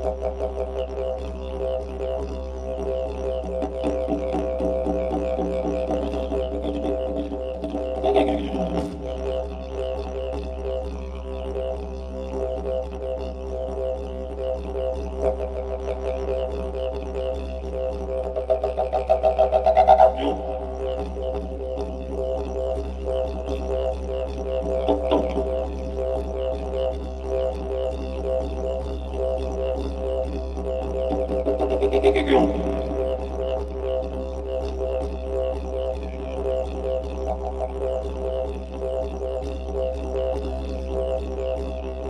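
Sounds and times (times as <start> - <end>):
didgeridoo droning: 0.0 - 42.0.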